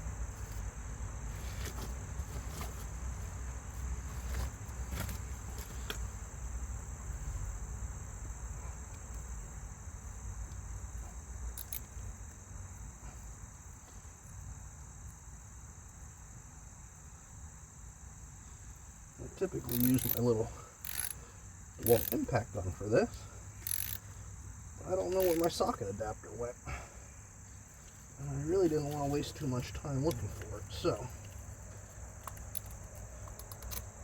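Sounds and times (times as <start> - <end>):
high-pitched insect chorus: 0.0 - 34.0.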